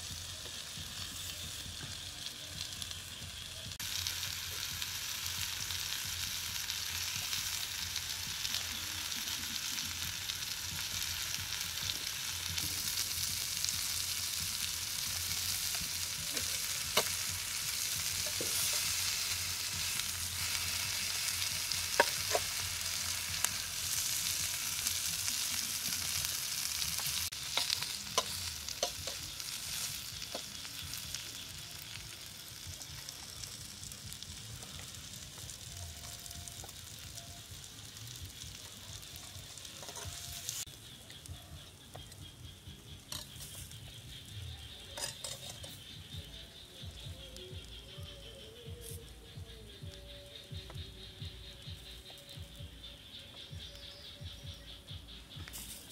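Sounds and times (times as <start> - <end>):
food sizzling on hot stone: 0.0 - 55.9.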